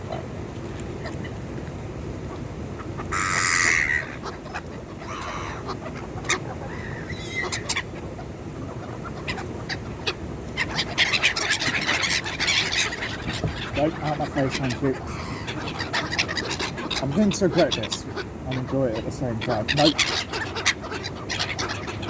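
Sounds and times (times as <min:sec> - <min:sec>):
gulls calling harshly: 0:02.2 - 0:22.0.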